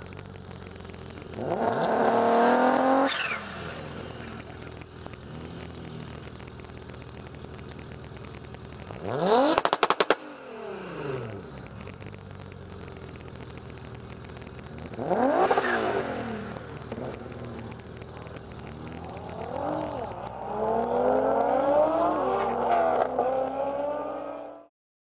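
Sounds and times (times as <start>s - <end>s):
car engine revving: 0.0s - 24.7s.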